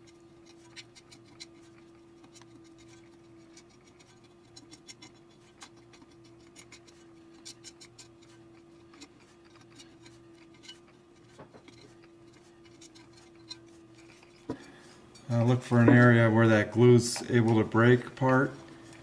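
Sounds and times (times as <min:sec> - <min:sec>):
knife blade scraping: 0:00.0 - 0:15.7
steady hum: 0:00.0 - 0:19.0.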